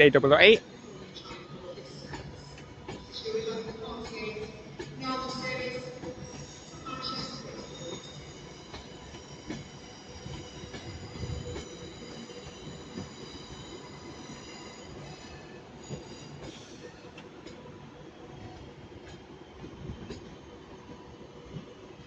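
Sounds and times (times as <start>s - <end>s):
train rumble: 0.0s - 17.7s.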